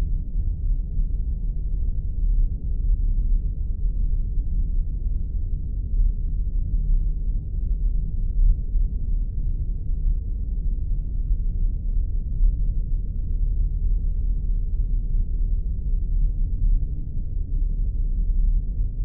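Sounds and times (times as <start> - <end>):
deep rumble: 0.0 - 19.0.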